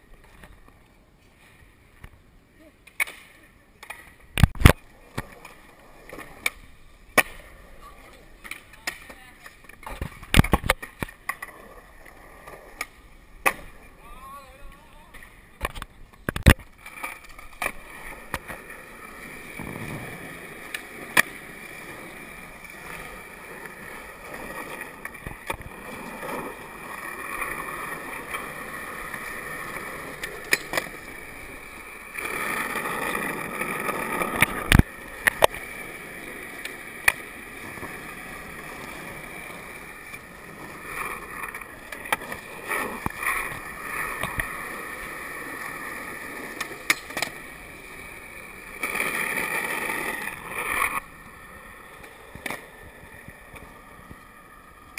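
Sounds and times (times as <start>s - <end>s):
skateboard wheels rolling on concrete: 0.0s - 54.9s
skateboard clacks: 1.9s - 54.9s.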